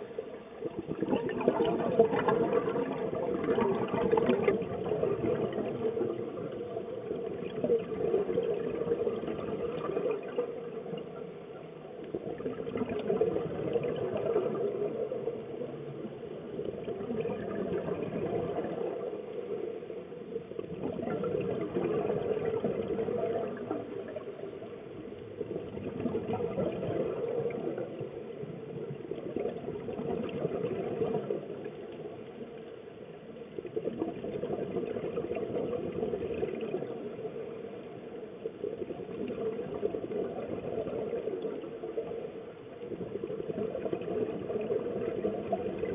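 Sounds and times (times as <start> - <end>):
exhaled bubbles: 0.0 - 45.9
muffled underwater wash: 0.0 - 45.9.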